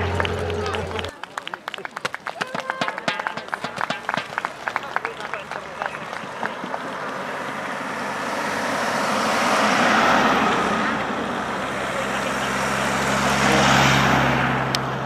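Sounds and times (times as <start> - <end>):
cars driving past: 0.0 - 1.1, 3.4 - 15.0.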